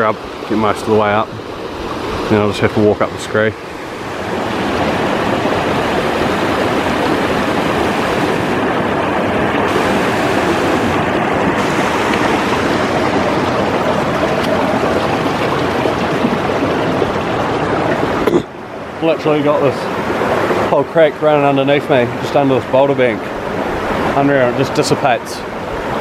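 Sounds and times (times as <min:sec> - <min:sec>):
creek rushing over rocks: 0:00.0 - 0:26.0.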